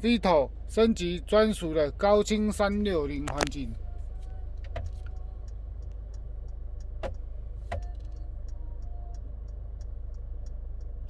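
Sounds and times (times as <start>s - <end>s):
rapid light ticking: 0.0s - 11.0s
van engine idling hum: 0.0s - 11.0s.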